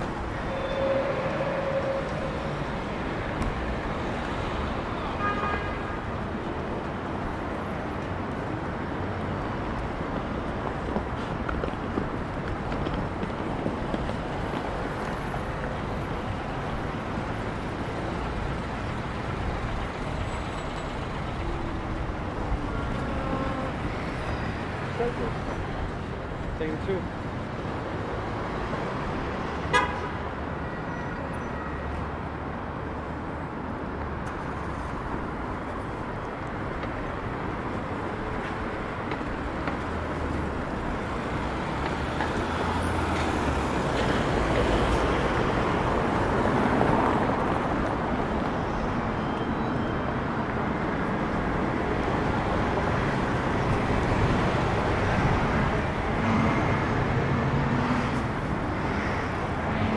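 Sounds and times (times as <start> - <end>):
passing cars: 0.0 - 59.9.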